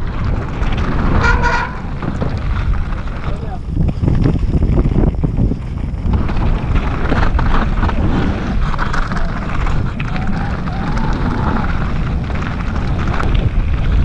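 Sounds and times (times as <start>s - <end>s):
bike rattles and clicks: 0.0s - 14.0s
bike tyres rolling on gravel: 0.0s - 14.0s
wind buffeting microphone: 0.0s - 14.0s.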